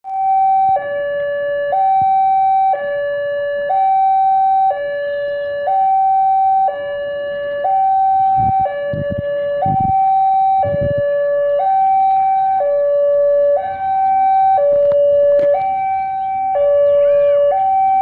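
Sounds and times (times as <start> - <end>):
two-tone electronic warning siren: 0.0 - 18.0.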